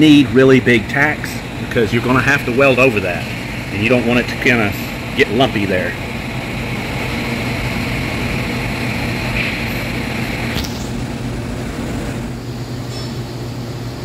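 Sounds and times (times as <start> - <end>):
welding torch hiss: 0.0 - 13.2
low hum: 0.0 - 14.0.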